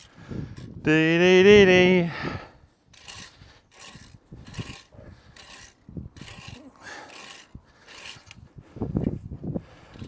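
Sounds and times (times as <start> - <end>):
rustling and scraping of clippings: 0.0 - 0.9, 1.6 - 10.0.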